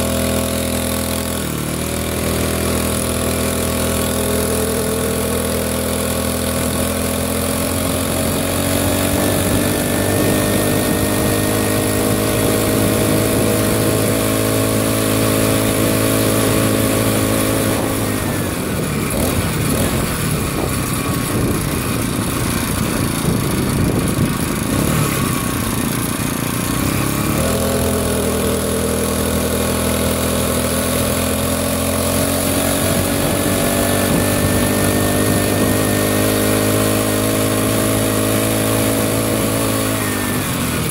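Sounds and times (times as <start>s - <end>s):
small two-stroke engine running: 0.0s - 40.9s.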